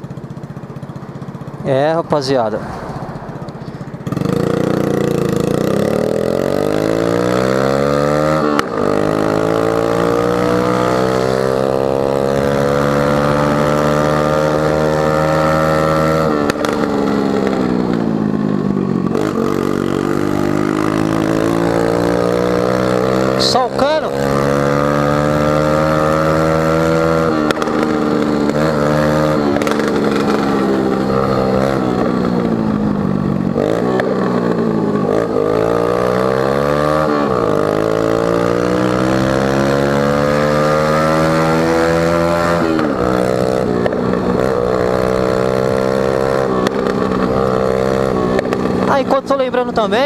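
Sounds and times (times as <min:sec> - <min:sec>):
scooter engine revving: 0:00.0 - 0:50.0.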